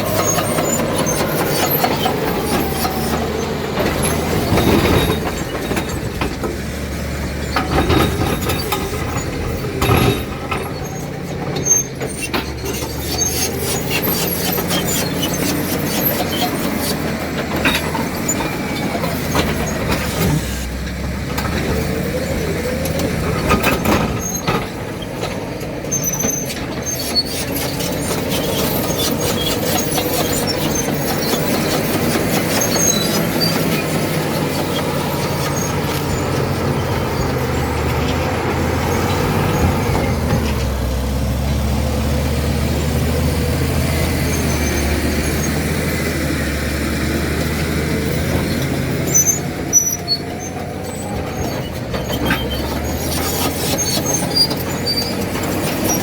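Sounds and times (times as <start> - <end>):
bulldozer diesel engine running: 0.0 - 56.0
metallic clanks and squeals: 0.0 - 56.0.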